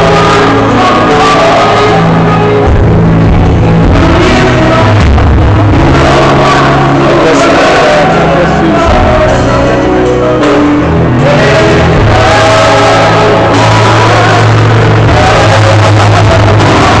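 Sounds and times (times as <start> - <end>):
gospel singing: 0.0 - 17.0
instrumental accompaniment: 0.0 - 17.0
steady bass line: 0.0 - 17.0.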